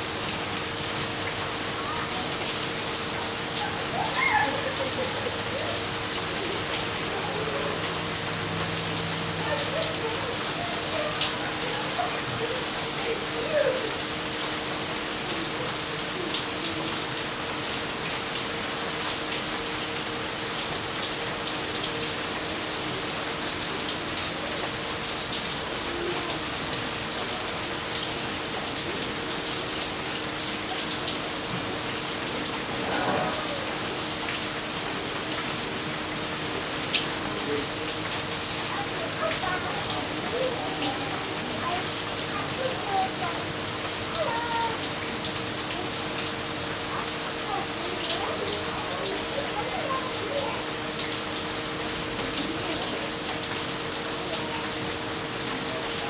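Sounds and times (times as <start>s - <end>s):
rain falling on leaves: 0.0s - 56.0s.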